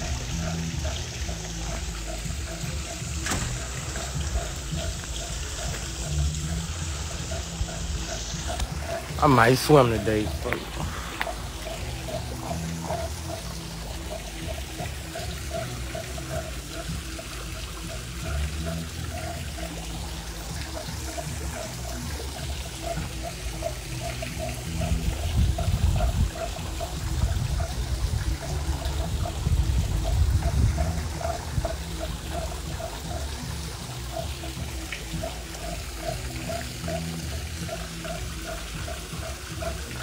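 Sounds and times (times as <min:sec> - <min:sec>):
water pouring into a pool: 0:00.0 - 0:40.0.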